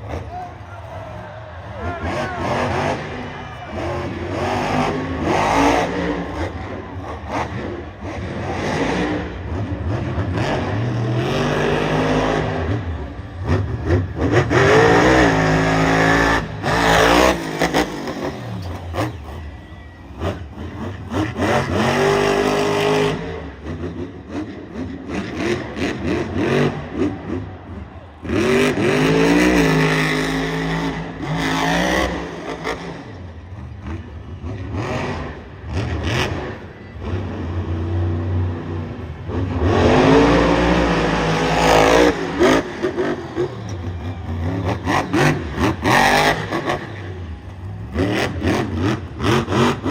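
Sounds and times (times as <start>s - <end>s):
monster truck engine revving: 0.0s - 49.9s.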